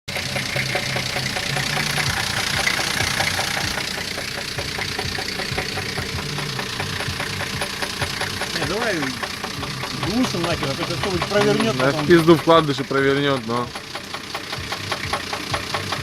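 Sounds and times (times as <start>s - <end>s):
engine idling with rapid knock: 0.0s - 16.0s.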